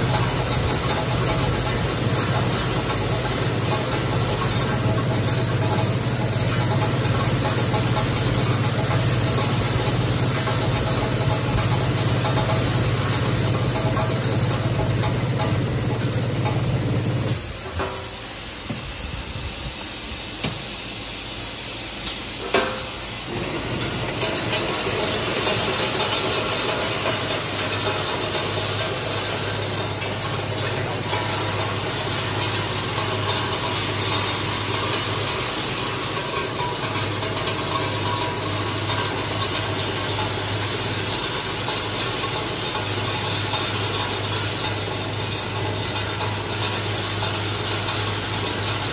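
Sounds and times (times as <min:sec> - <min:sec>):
machine humming and hissing: 0:00.0 - 0:48.9.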